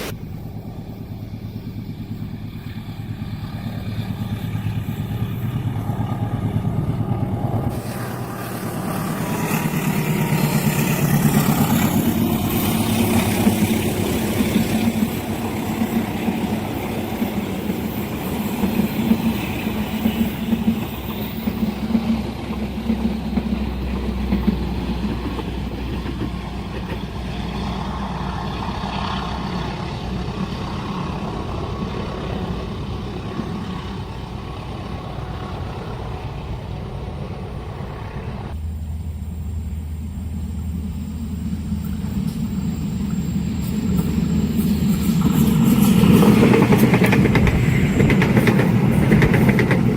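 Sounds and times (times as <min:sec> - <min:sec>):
locomotive engine humming: 0:00.0 - 0:49.9
train wheels clattering on rails: 0:00.6 - 0:36.1, 0:41.5 - 0:49.9.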